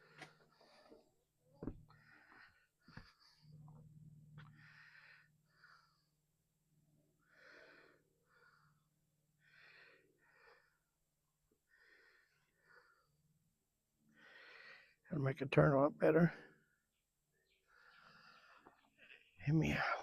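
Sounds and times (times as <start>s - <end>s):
person breathing: 0.0s - 6.4s, 7.2s - 13.4s, 14.1s - 15.1s, 16.4s - 19.4s.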